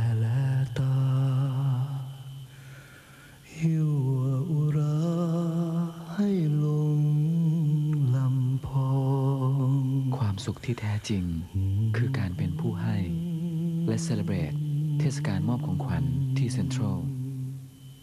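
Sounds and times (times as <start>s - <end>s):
person singing slow ballad: 0.0s - 18.0s.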